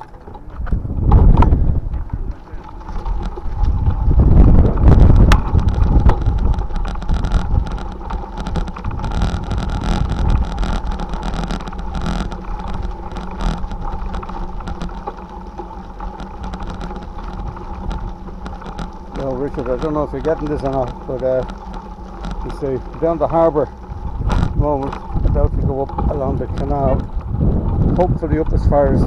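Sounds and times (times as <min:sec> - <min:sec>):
bicycle rattling on rough path: 0:00.0 - 0:29.0
wind buffeting microphone: 0:00.0 - 0:29.0.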